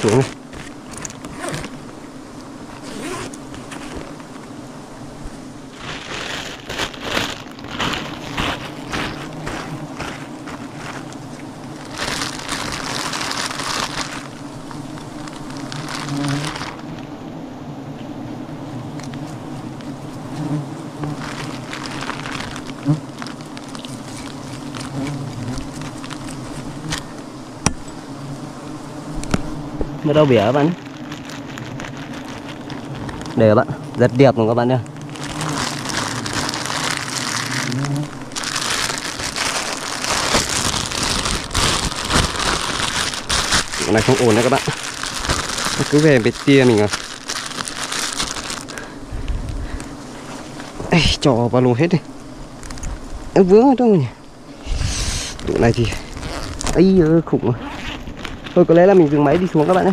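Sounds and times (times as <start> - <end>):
loud rustling and crunching: 0.0 - 17.2, 18.7 - 53.7, 54.3 - 59.9
bees buzzing: 0.0 - 59.9.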